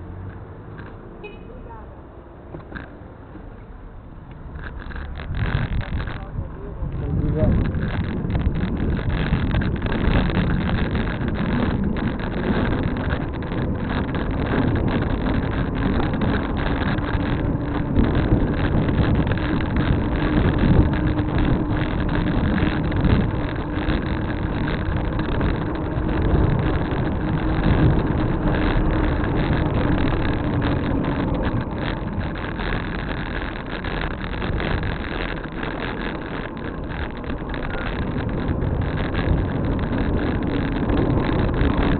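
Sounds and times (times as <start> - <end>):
bicycle road noise: 0.0 - 41.9
wind noise: 2.5 - 41.9.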